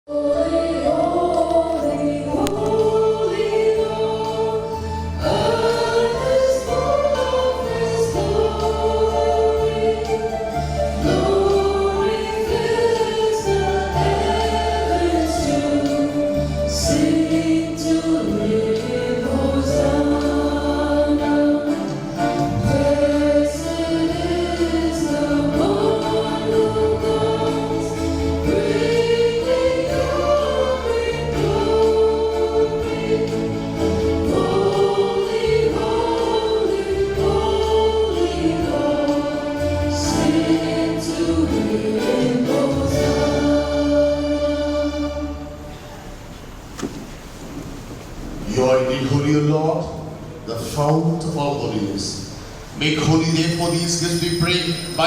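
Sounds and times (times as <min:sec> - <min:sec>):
choir singing: 0:00.1 - 0:46.7, 0:52.5 - 0:55.0.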